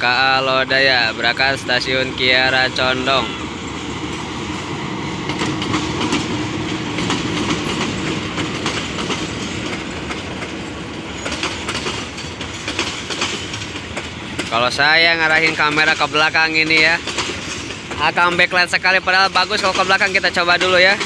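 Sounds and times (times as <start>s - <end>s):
low train drone: 0.0s - 21.0s
wheels clacking over rail joints: 0.0s - 21.0s.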